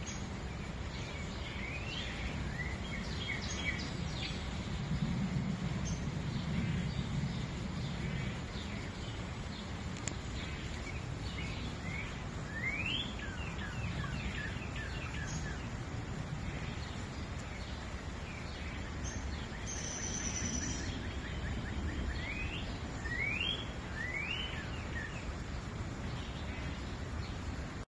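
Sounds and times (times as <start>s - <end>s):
small birds chirping: 0.0s - 27.8s
stream flowing: 0.0s - 27.8s.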